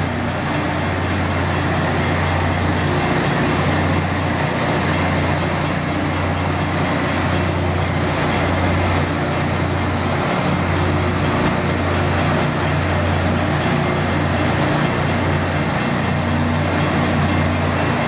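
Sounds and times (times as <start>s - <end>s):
low engine drone: 0.0s - 18.0s.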